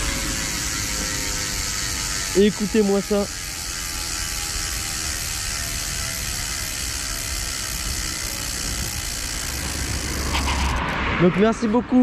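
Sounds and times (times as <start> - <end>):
bicycle freewheel ratcheting whir: 0.0 - 11.0.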